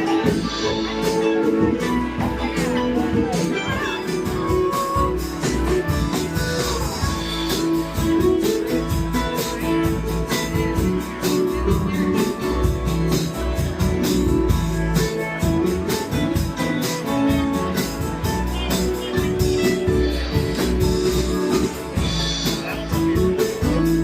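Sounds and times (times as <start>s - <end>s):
bass: 0.0s - 24.0s
drums: 0.0s - 24.0s
guitar: 0.0s - 24.0s.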